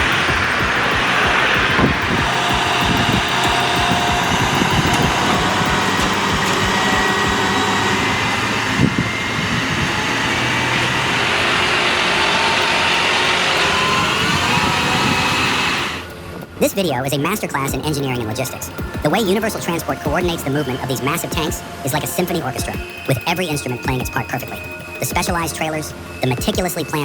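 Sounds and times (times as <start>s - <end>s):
heavy truck engines running: 0.0s - 27.0s.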